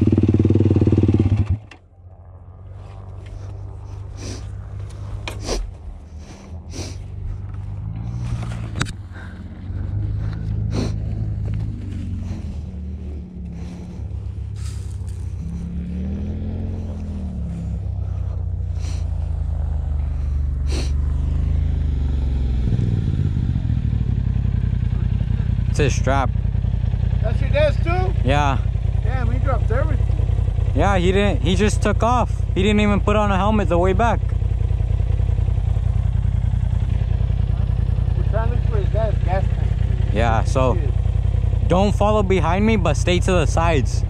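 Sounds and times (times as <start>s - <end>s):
off-road vehicle engine: 0.0s - 44.0s.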